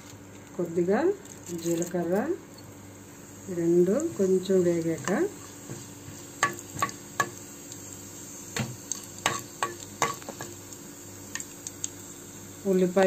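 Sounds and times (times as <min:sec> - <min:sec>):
oil sizzling: 0:01.3 - 0:13.0.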